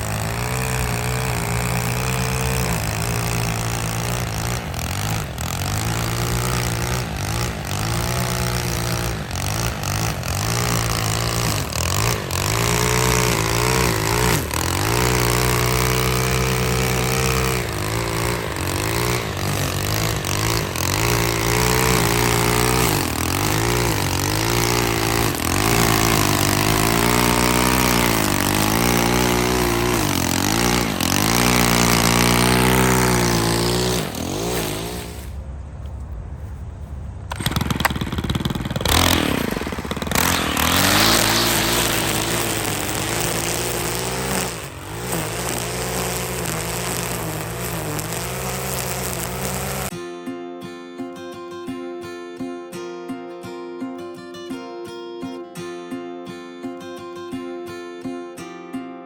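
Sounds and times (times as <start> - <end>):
small lawn equipment engine running: 0.0 - 35.6, 37.3 - 50.0.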